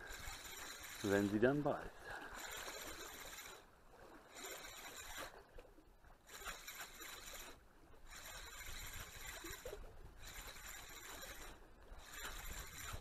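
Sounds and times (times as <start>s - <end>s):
spinning reel whirring: 0.0s - 5.4s, 6.2s - 13.0s.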